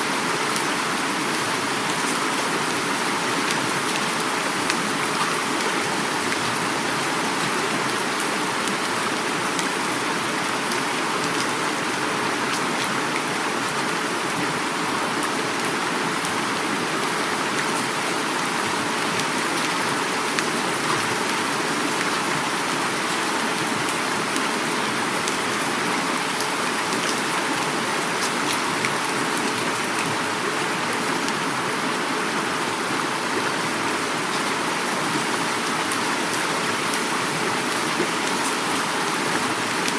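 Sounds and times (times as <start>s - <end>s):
heavy rain falling: 0.0s - 39.9s
river flowing: 0.0s - 39.9s.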